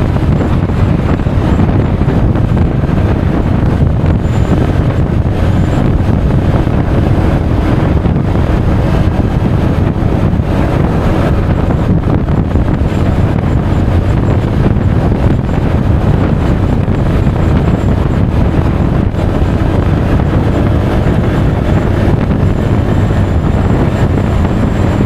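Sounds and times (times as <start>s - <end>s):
road noise: 0.0s - 25.0s
scooter engine: 0.0s - 25.0s
wind noise on microphone: 0.0s - 25.0s.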